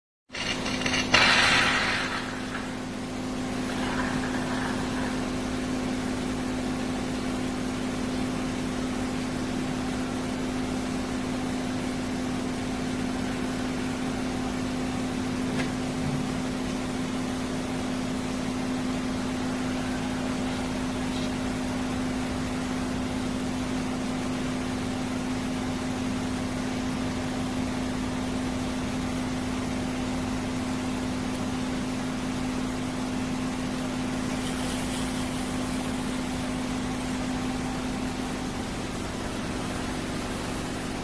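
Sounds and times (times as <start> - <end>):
coffee maker humming and hissing: 0.4 - 41.0.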